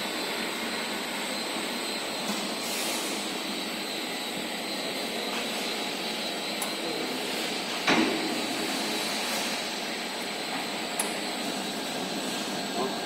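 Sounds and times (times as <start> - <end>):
industrial machinery hum: 0.0 - 13.0.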